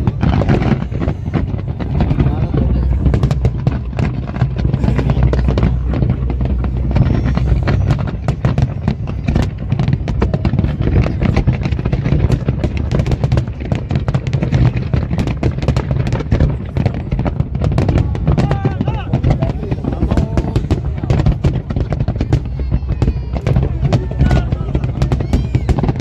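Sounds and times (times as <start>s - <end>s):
fireworks bangs and crackles: 0.0s - 26.0s
low rumble: 0.0s - 26.0s.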